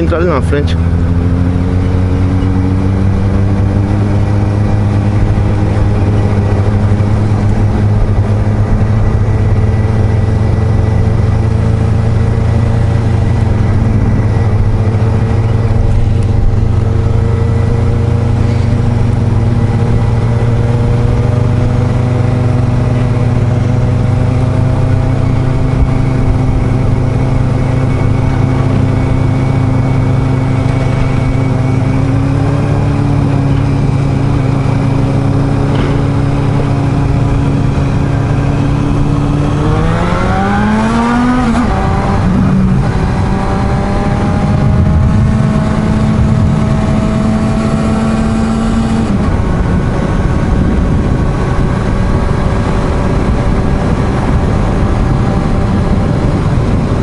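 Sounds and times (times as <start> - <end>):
motorcycle engine accelerating: 0.0 - 57.0
road and wind noise: 0.0 - 57.0.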